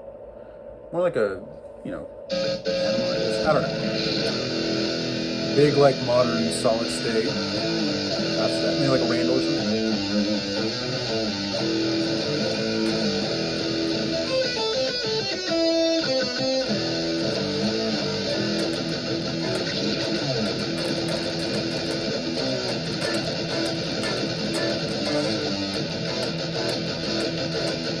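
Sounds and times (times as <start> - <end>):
distorted electric guitar: 2.3 - 28.0.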